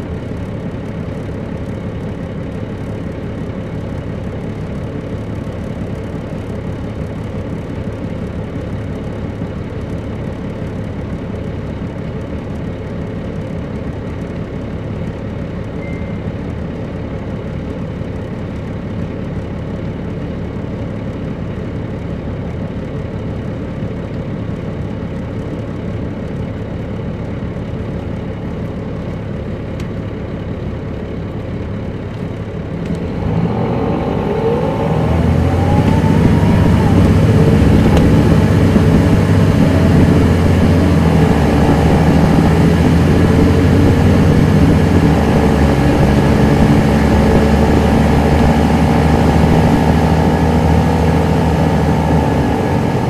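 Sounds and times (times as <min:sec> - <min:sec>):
diesel bus engine droning: 0:00.0 - 0:53.0.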